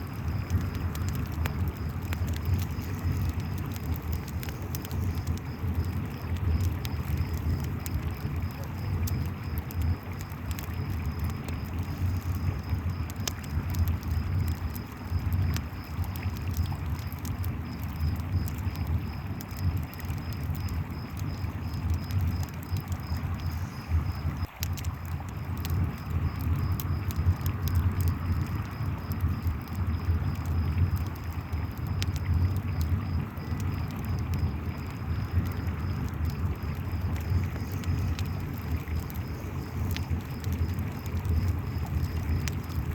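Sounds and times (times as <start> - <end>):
campfire crackling and popping: 0.0 - 42.9
crickets chirping: 0.0 - 42.9.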